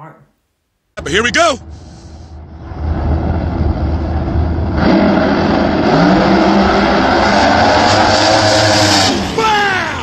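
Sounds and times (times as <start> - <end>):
drag race engines roaring: 1.0 - 9.9.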